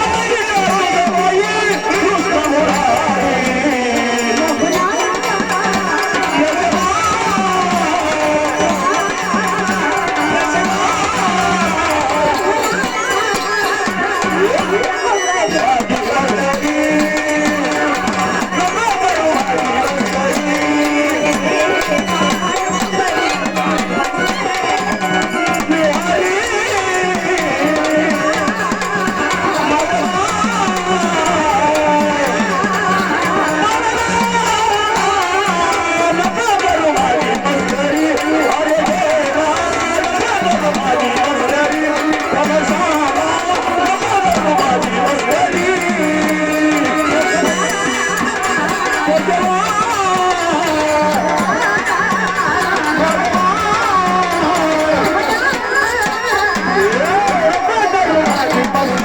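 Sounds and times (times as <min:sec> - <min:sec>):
hand drum beats: 0:00.0 - 0:59.0
instrumental accompaniment: 0:00.0 - 0:59.0.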